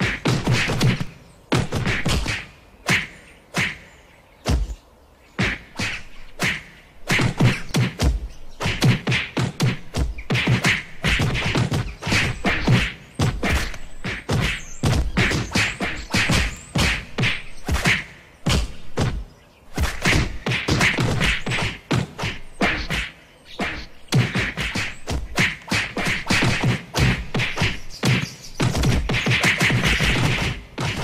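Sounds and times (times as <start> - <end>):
cartoon punch thuds and whacks: 0.0 - 3.8, 4.5 - 4.8, 5.4 - 31.0.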